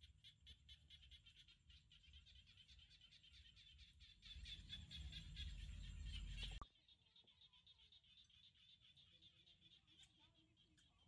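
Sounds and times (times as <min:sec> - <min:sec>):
frogs calling: 0:00.0 - 0:11.0.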